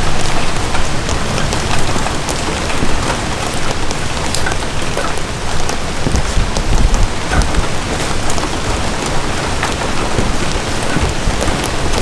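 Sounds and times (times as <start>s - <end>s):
rain on trees and leaves: 0.0s - 12.0s.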